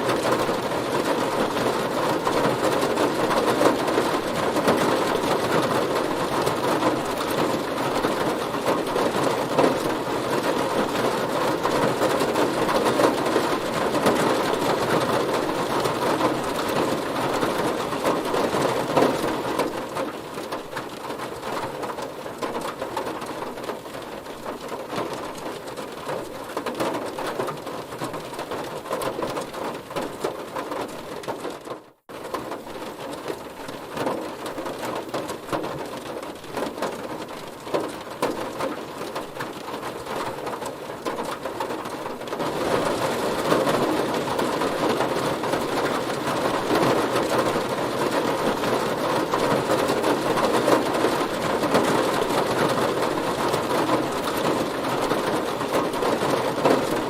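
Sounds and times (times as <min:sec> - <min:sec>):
heavy rain on a car: 0:00.0 - 0:57.0.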